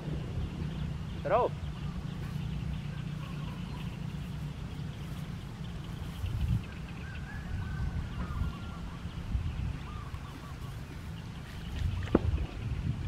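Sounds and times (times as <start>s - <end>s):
faint high chirping: 0.0s - 13.0s
low uneven rumble: 0.0s - 13.0s.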